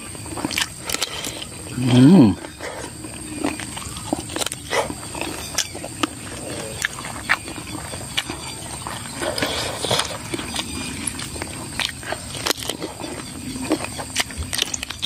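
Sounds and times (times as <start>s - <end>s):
sharp crunches while chewing: 0.0s - 15.0s
wet chewing and lip-smacking: 0.0s - 15.0s.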